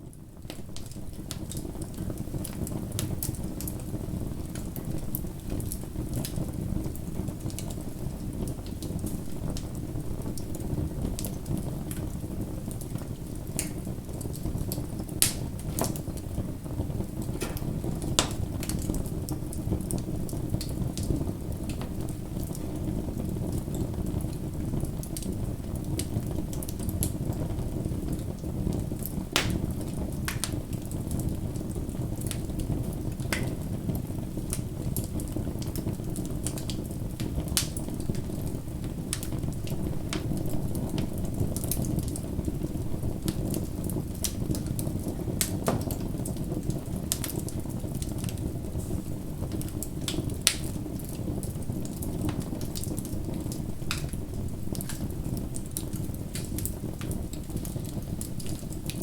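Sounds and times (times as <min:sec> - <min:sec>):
fire crackling and popping: 0:00.0 - 0:59.0
low rumble of fire: 0:00.0 - 0:59.0.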